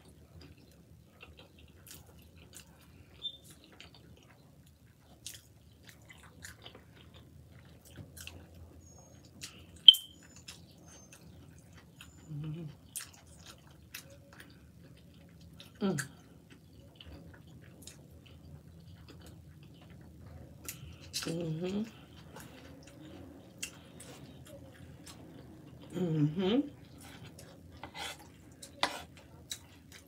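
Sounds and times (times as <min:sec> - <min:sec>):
chewing with wet mouth clicks: 0:00.0 - 0:26.0, 0:26.8 - 0:30.0.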